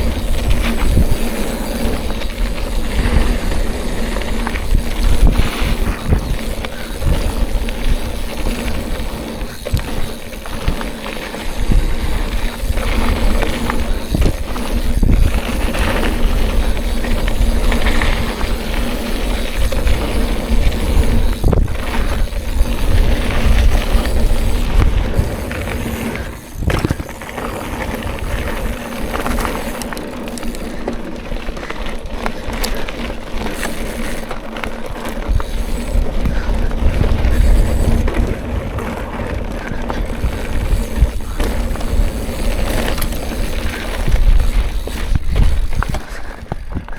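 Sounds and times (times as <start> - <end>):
wind rumble on microphone: 0.0 - 29.9, 34.9 - 46.9
bike tyres on rough trail: 0.0 - 46.9.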